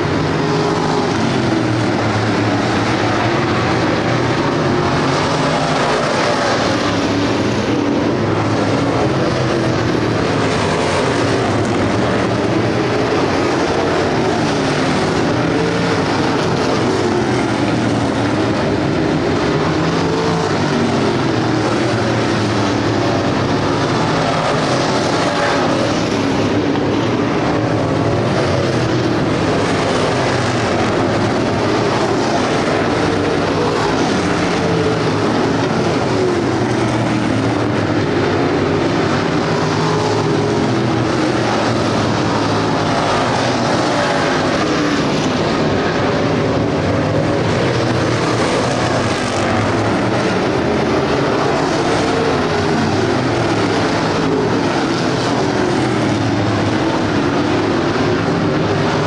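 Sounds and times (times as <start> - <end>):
race car engines passing: 0.0 - 59.0.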